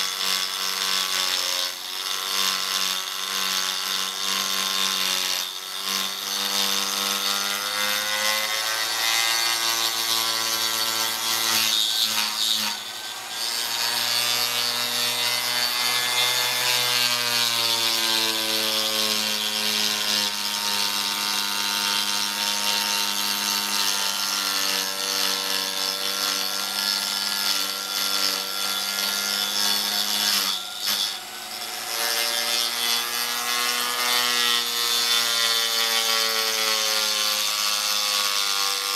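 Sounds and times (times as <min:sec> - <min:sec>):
electric router whine: 0:00.0 - 0:38.9.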